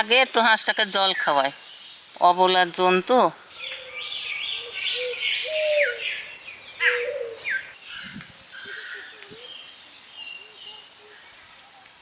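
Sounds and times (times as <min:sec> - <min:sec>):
small birds chirping: 0:00.0 - 0:12.0
steady high-pitched hiss: 0:00.0 - 0:12.0.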